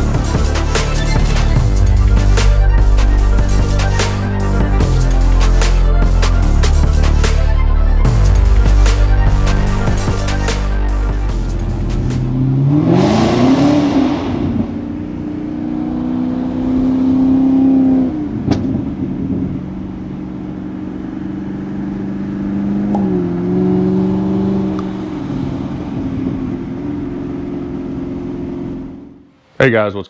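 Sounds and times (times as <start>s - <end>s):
car engine revving and idling: 0.0s - 29.3s.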